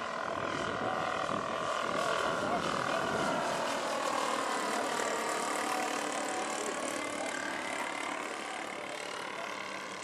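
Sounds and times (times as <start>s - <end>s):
model airplane engines droning: 0.0s - 10.0s.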